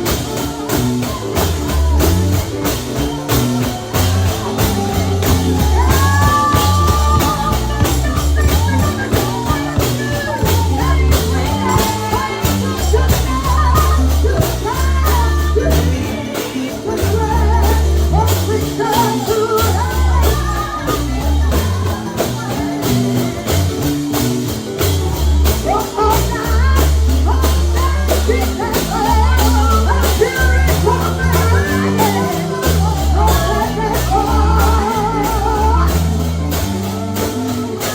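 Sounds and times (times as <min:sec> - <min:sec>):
deep bass line: 0:00.0 - 0:37.9
gospel singing voices: 0:00.0 - 0:37.9
tambourine beat: 0:00.0 - 0:37.9.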